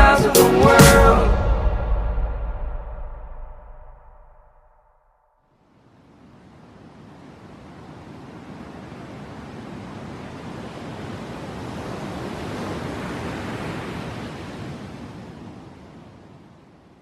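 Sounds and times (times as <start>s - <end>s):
ocean wave rushing in: 0.6s - 4.4s, 5.7s - 15.9s.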